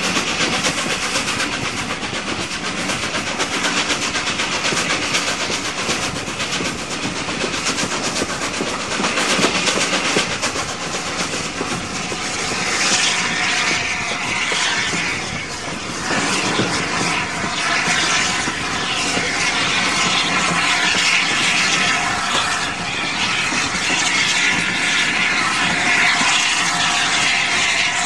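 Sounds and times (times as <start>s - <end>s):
steam locomotive exhaust beats: 0.0s - 28.0s
train wheel clicks: 0.0s - 28.0s.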